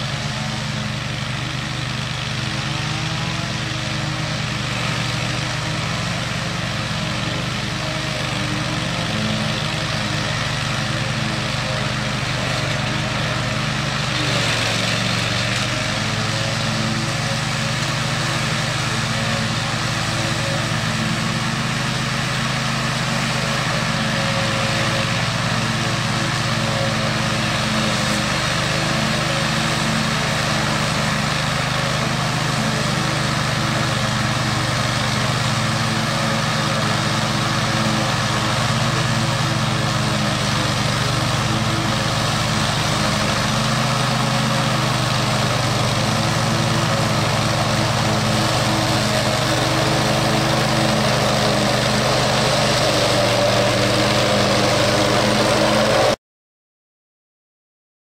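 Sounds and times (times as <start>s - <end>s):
lawn mower engine running: 0.0s - 56.2s
mower blades cutting grass: 0.0s - 56.2s.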